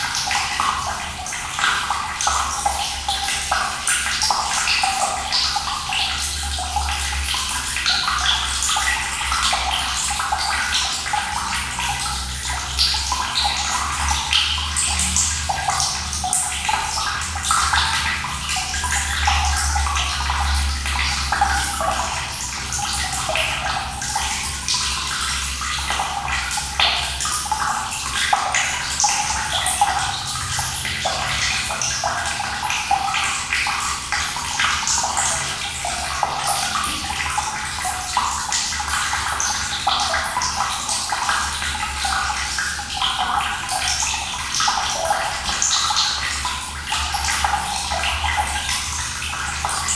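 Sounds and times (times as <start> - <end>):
water flowing and splashing: 0.0 - 49.9.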